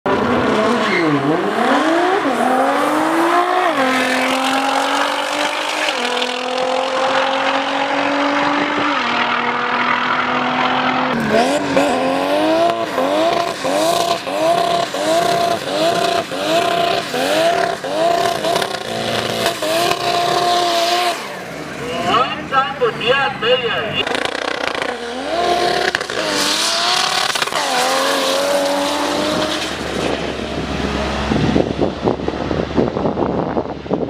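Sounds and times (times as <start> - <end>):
car engine accelerating: 0.1 - 22.6, 23.9 - 34.0.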